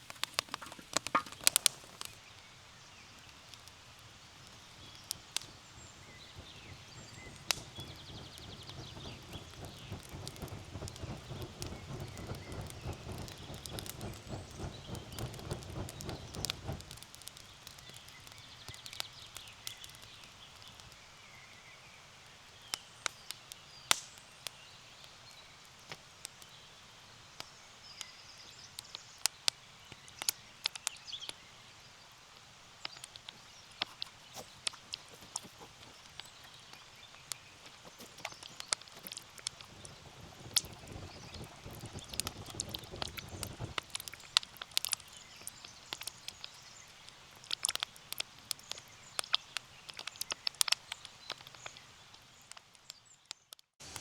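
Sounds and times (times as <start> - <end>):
dense rustling crackle: 0.0 - 23.2, 29.9 - 54.0
birds chirping faintly: 0.0 - 54.0
campfire wood crackling and popping: 0.0 - 54.0.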